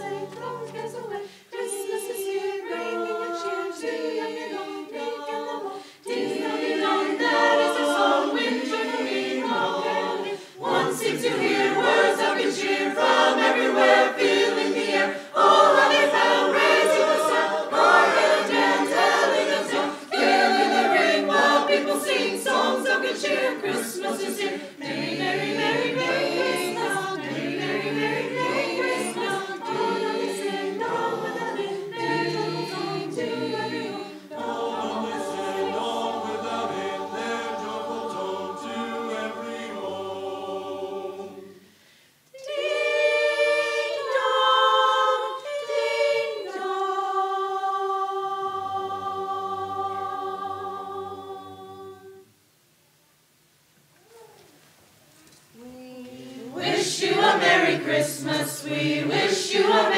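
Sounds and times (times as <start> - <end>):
mixed choir singing unaccompanied: 0.0 - 52.3, 56.1 - 59.9.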